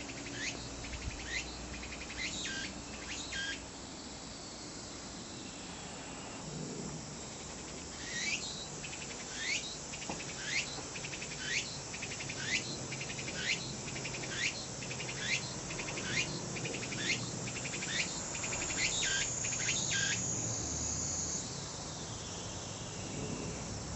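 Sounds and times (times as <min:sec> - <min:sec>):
cicada buzzing song: 0:00.0 - 0:23.9.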